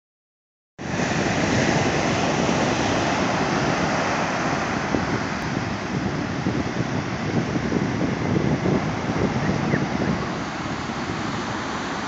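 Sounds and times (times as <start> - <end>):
ocean surf breaking: 0.8 - 12.0
wind buffeting microphone: 0.8 - 12.0.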